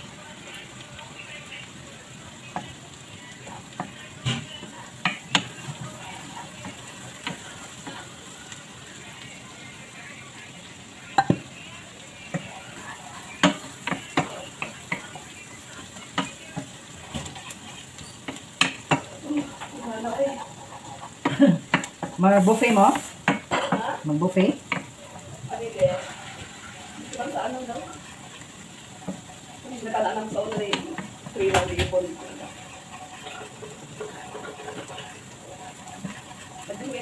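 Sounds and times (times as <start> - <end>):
garlic sizzling in a pan: 0.0 - 37.0.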